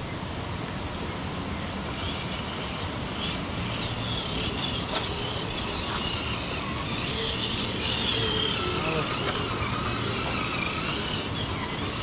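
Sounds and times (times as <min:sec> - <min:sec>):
steady rushing noise: 0:00.0 - 0:12.0
electric motor whining: 0:01.7 - 0:12.0.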